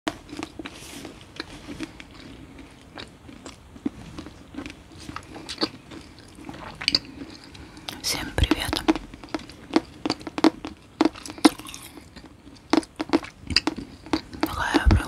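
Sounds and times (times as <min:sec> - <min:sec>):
gum chewing wet smacks: 0:01.4 - 0:14.8.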